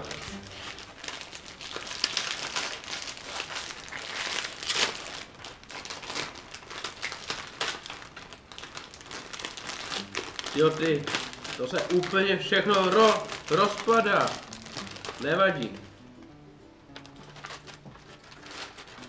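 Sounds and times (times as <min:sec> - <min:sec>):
plastic wrapper crinkling: 0:00.0 - 0:16.3, 0:16.9 - 0:19.0.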